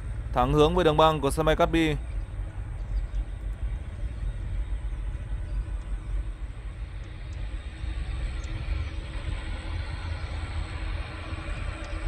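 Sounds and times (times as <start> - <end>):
distant jet engines rumbling: 0.0 - 12.0.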